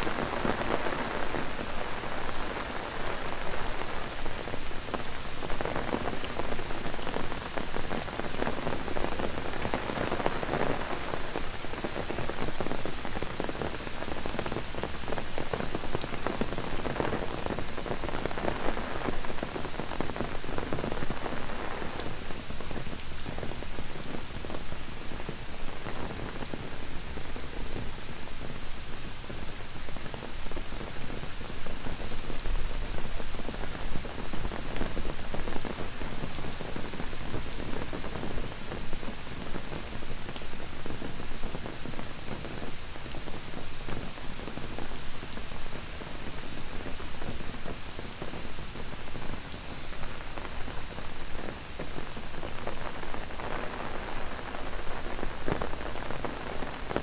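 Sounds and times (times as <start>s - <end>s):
cicadas chorus: 0.0s - 57.0s
rain on an umbrella: 0.0s - 57.0s.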